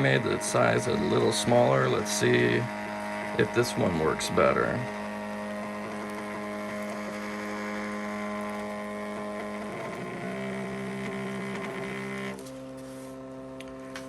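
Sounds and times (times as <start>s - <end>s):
stencil printer whirring hum: 0.0s - 14.0s.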